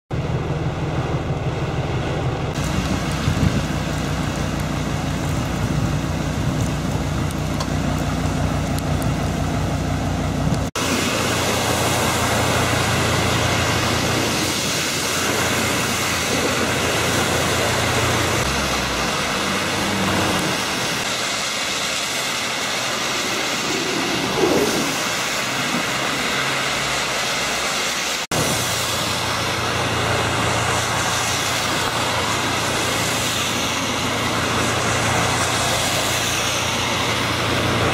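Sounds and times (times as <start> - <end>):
downpour on street: 0.1 - 37.9
vehicle driving through water: 0.2 - 37.9
rain drumming on car roof: 2.5 - 37.9.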